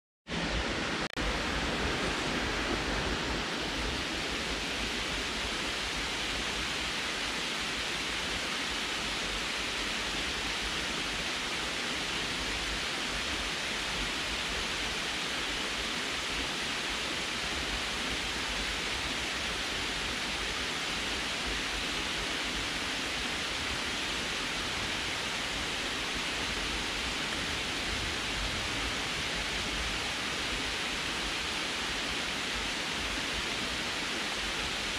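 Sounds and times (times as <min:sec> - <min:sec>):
water pouring over dam spillway: 0:01.3 - 0:34.9.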